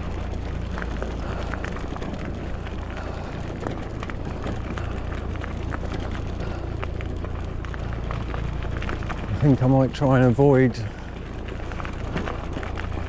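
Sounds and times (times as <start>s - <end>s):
bike tyres rumbling on track: 0.0s - 13.0s
crackles and clicks from ground: 0.0s - 13.0s.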